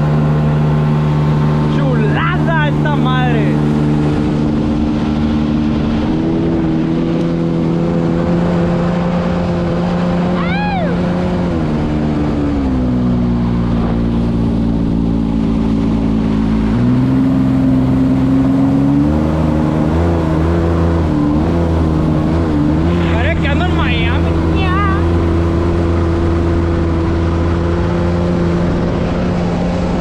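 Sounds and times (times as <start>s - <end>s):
quad engine running: 0.0s - 30.0s.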